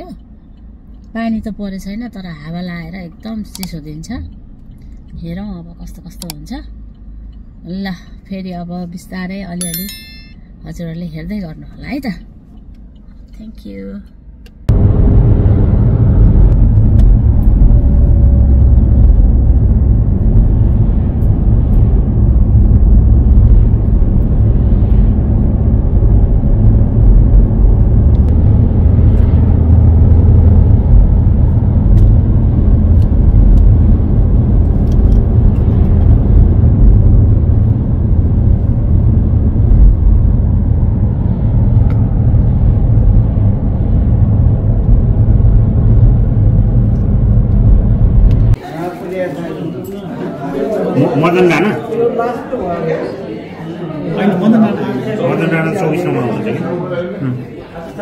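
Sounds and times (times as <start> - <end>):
car road and engine rumble: 0.0 - 48.6.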